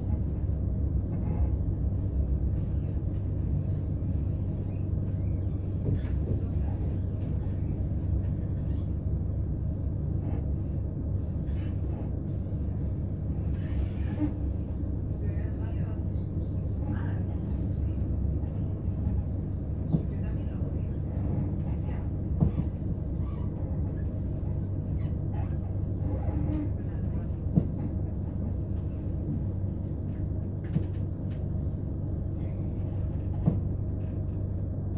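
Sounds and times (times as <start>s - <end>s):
electric train rumbling: 0.0s - 34.9s.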